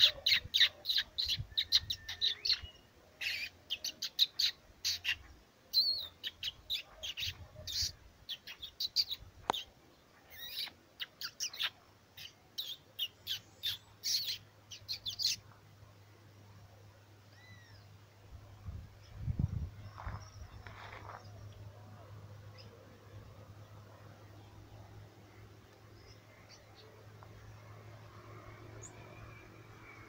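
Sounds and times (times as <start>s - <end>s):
birds singing and chirping: 0.0s - 15.4s, 17.3s - 18.0s, 18.6s - 27.3s.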